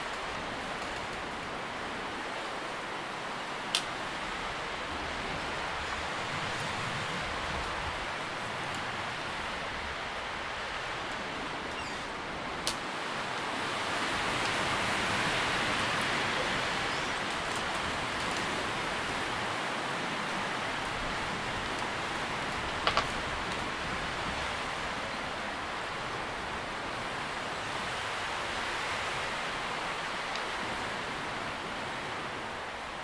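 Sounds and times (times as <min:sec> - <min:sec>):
wind rustling tree leaves: 0:00.0 - 0:33.0.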